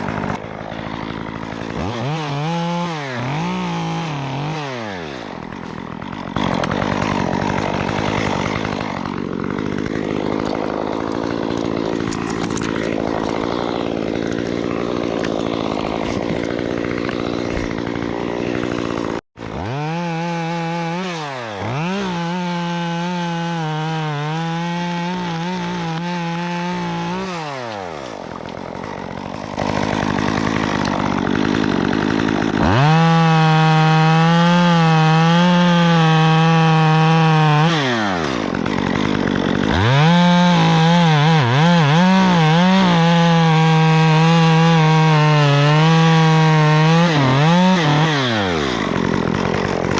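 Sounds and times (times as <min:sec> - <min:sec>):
chainsaw cutting wood: 0:00.0 - 0:49.9
chainsaw revving: 0:00.0 - 0:49.9.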